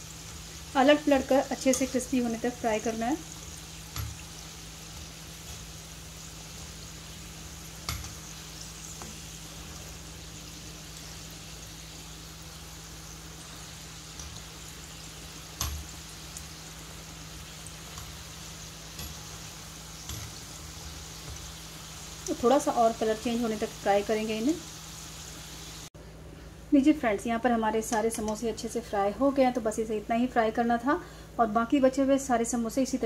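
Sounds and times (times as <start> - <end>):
food deep-frying in oil: 0.0 - 25.9, 26.8 - 30.9.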